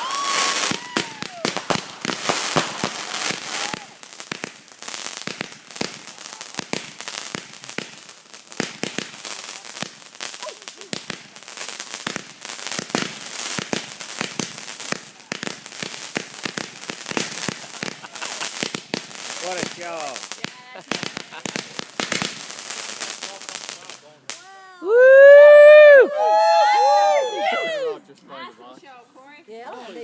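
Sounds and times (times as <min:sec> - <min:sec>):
fireworks bangs and crackles: 0:00.0 - 0:27.8.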